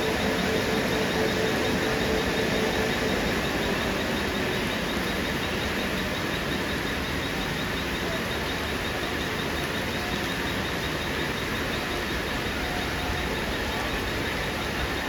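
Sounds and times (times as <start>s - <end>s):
electric train running: 0.0s - 15.0s.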